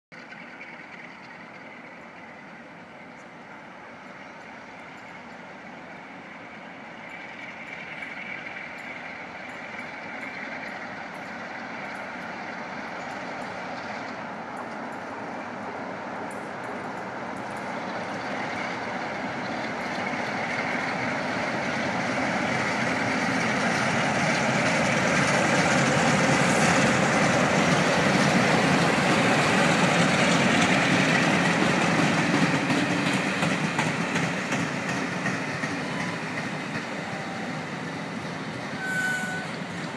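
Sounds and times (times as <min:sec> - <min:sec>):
diesel locomotives passing: 0:00.1 - 0:39.9.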